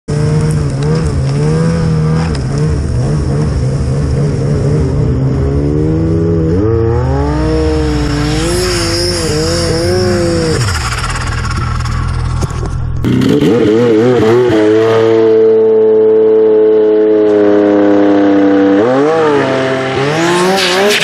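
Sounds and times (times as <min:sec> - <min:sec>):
snowmobile engine revving: 0:00.1 - 0:21.0
high whine: 0:00.4 - 0:18.4.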